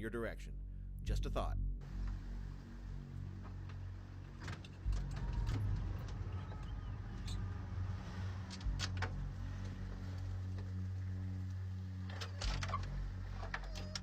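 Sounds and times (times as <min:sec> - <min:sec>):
engine humming: 0:01.8 - 0:14.0.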